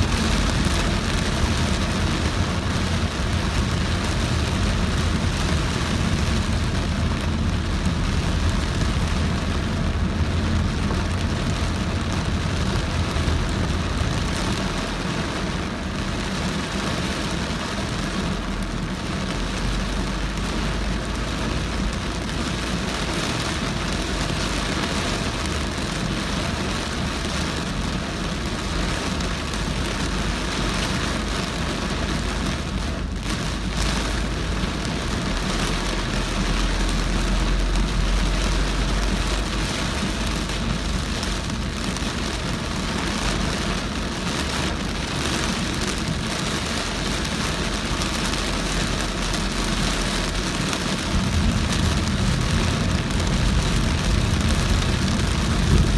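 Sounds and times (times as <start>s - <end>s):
car engine and road rumble: 0.0s - 55.9s
heavy rain on a car: 0.0s - 55.9s.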